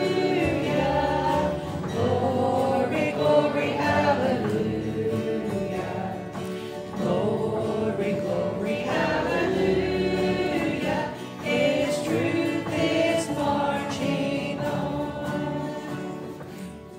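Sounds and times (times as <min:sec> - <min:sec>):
woman singing: 0:00.0 - 0:16.7
acoustic guitar: 0:00.0 - 0:16.9
group of voices singing: 0:00.0 - 0:16.9.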